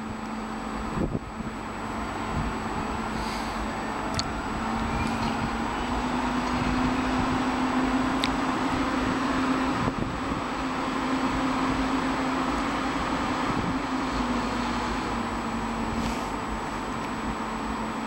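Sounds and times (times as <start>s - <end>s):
train ventilation humming: 0.0s - 18.0s.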